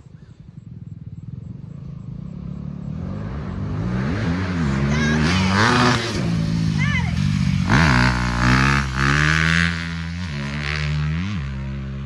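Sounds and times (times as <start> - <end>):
dirt bike engine revving: 0.5 - 12.0.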